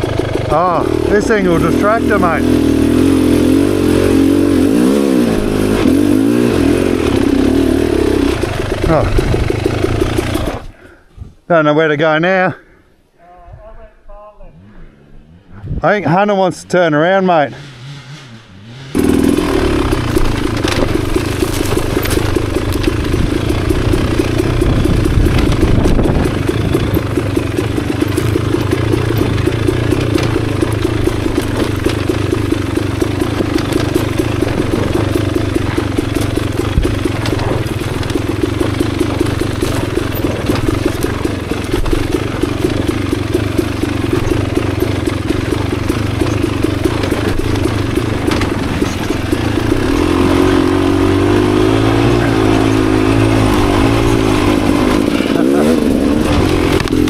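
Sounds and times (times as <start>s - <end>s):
dirt bike engine running: 0.0s - 11.0s, 14.6s - 57.0s.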